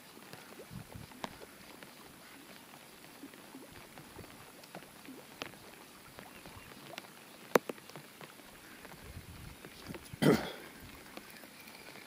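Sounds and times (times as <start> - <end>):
raindrop ticks: 0.0 - 12.0.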